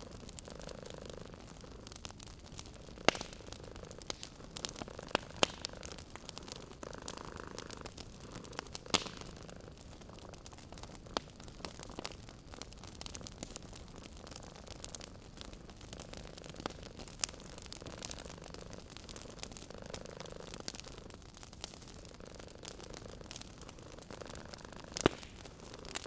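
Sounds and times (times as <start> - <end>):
cat purring: 0.0 - 26.0
wood fire crackling: 0.0 - 26.0
sharp fire pops: 0.1 - 26.0.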